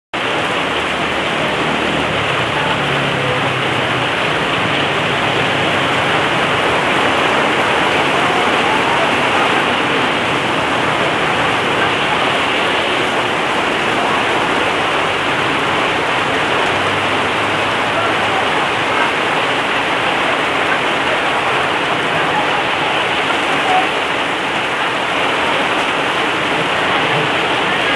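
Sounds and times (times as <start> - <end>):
heavy rain on pavement: 0.1 - 27.9.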